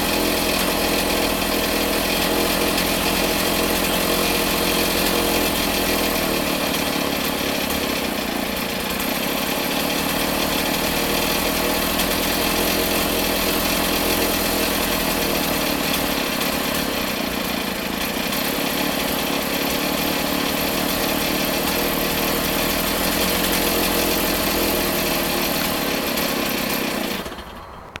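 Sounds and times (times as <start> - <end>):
chainsaw engine running: 0.0 - 28.0.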